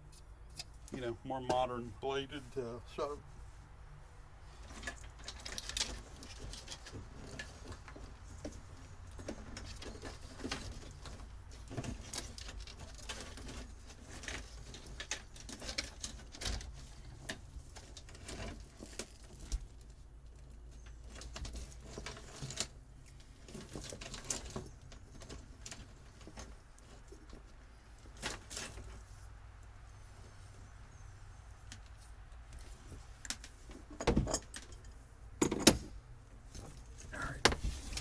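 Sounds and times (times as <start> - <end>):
wiring rustling and scraping: 0.0 - 38.0.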